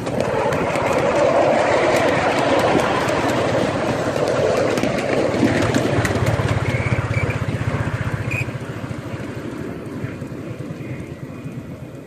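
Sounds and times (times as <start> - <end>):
miniature locomotive running on track: 0.0 - 12.0.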